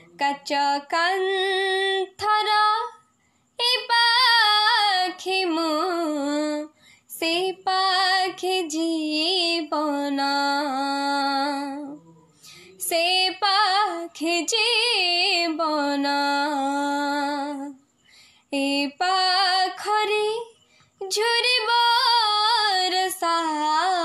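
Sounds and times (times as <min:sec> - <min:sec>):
woman singing unaccompanied: 0:00.0 - 0:17.9, 0:18.5 - 0:24.0.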